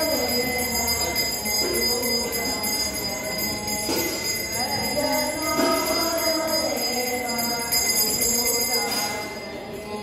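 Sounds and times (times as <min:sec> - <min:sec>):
bright metallic jingle: 0:00.0 - 0:10.0.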